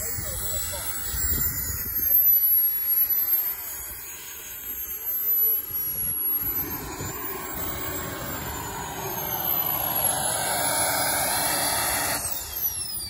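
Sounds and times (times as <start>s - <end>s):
model jet turbine whine: 0.0s - 13.0s.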